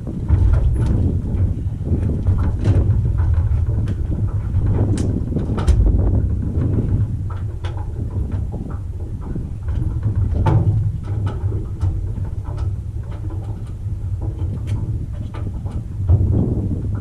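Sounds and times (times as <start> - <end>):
airplane engine droning: 0.0 - 17.0
knocks and rattles: 0.0 - 17.0.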